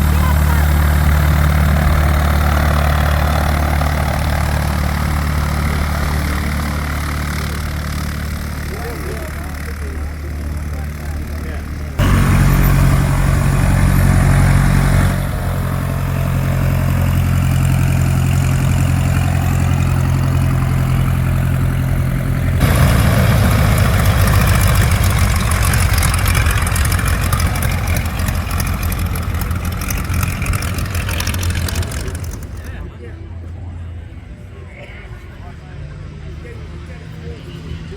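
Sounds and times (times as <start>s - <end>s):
propeller aircraft engine running: 0.0s - 32.9s.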